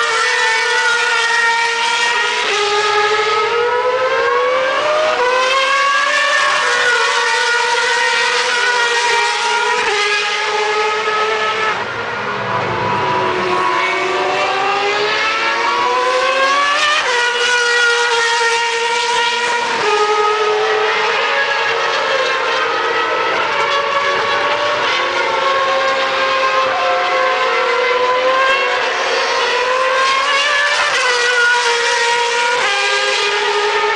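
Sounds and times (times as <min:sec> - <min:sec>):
race car engines revving: 0:00.0 - 0:33.9.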